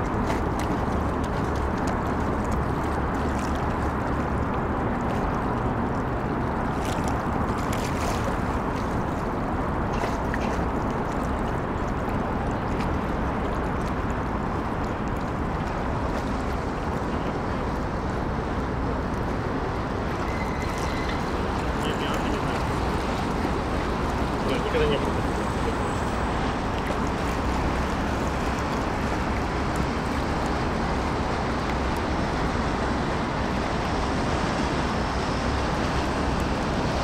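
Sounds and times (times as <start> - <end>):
boat engine rumble: 0.0 - 37.0
water rushing: 0.0 - 37.0.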